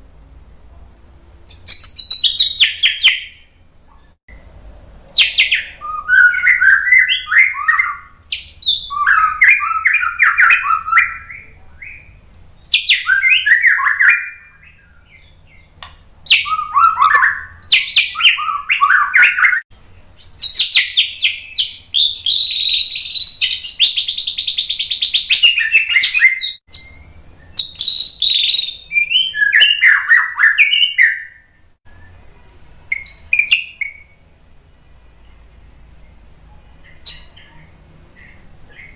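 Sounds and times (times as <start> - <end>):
bird singing whistles: 1.4 - 4.4, 5.1 - 15.7, 16.3 - 34.2, 36.1 - 37.6, 38.2 - 38.9.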